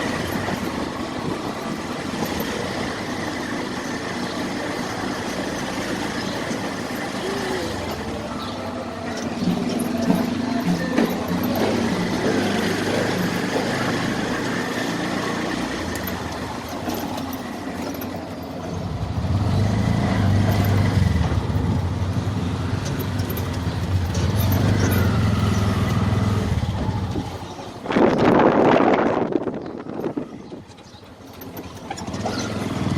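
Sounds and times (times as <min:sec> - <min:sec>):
vehicle engine running: 0:00.0 - 0:29.3, 0:30.1 - 0:32.9
street ambience: 0:00.0 - 0:32.9.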